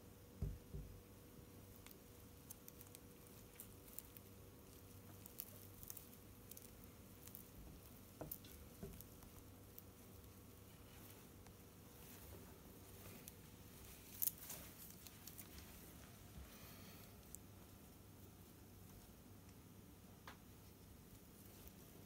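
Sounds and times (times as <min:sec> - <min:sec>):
faint room hum: 0:00.0 - 0:22.0.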